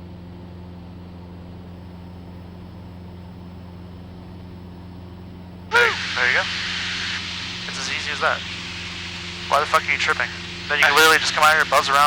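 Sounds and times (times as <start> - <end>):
airplane engine droning in cockpit: 0.0 - 12.0.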